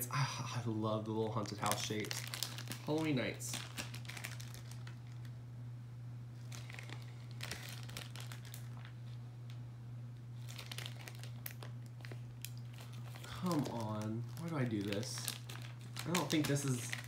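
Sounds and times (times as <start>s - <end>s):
steady low hum: 0.0s - 17.0s
plastic bag crinkling: 0.6s - 5.4s, 6.4s - 9.6s, 10.4s - 17.0s.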